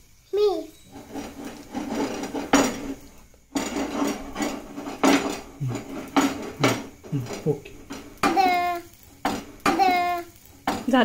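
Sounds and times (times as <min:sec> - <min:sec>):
frying pan clanking on stove: 0:00.9 - 0:11.0.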